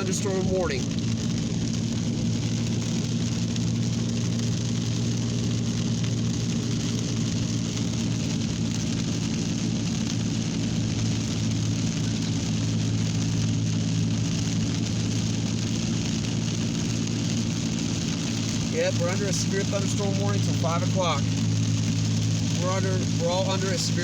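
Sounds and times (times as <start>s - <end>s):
low hum: 0.0s - 24.0s
steady rainfall: 0.0s - 24.0s.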